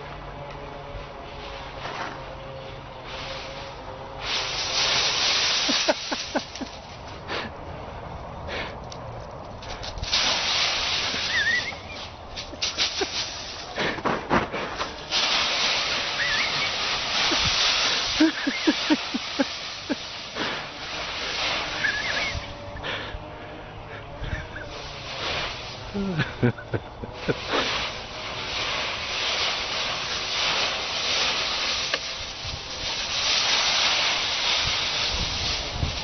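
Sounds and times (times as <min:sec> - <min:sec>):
dry leaves rustling and crunching: 0:00.0 - 0:07.3, 0:09.0 - 0:22.7, 0:24.5 - 0:36.0.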